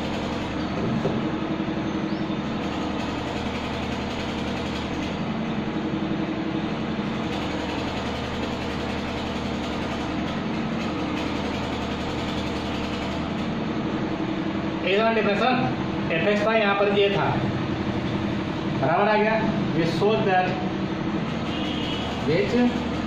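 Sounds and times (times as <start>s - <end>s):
machine running with low hum: 0.0s - 23.0s.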